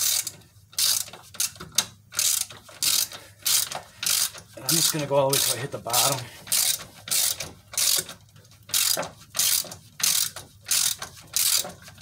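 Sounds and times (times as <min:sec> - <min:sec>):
hand ratchet clicking: 0:00.0 - 0:12.0.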